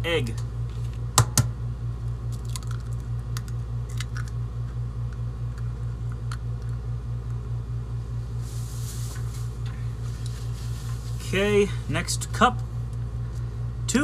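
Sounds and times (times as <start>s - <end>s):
pulsing low hum: 0.0s - 14.0s.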